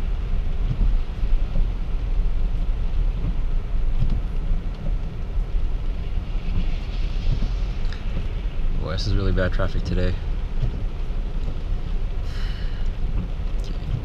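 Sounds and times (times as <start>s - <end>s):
rain on car: 0.0s - 14.0s
tyres rumbling on wet pavement: 0.0s - 14.0s.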